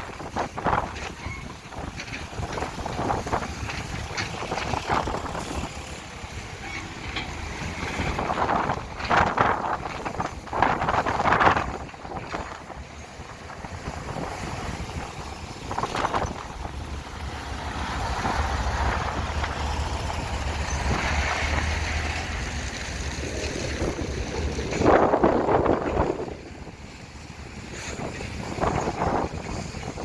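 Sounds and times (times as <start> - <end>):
excavator engine humming: 0.0 - 30.0.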